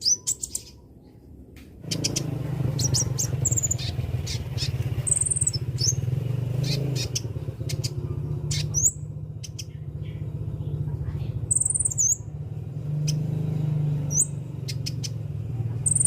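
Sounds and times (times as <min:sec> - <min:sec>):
bird chirps and trills: 0:00.0 - 0:16.0.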